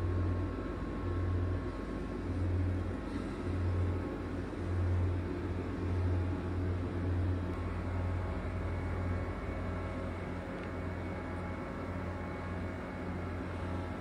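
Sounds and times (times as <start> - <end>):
refrigeration unit hum: 0.0 - 14.0.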